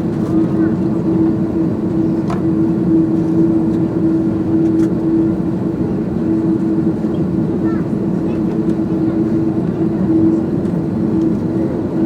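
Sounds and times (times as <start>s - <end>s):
aircraft cabin drone: 0.0s - 12.0s.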